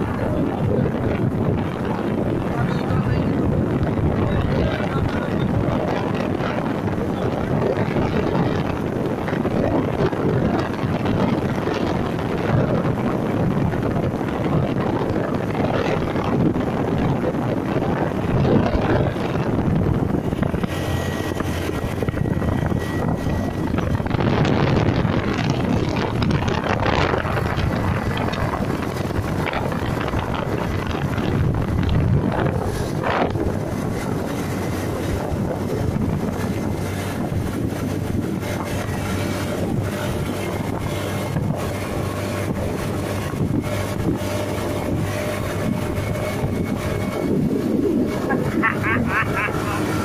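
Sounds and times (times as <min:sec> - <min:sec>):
motorcycle engine: 0:00.0 - 0:50.0
tyre noise on road: 0:00.0 - 0:50.0
wind buffeting microphone: 0:00.0 - 0:50.0.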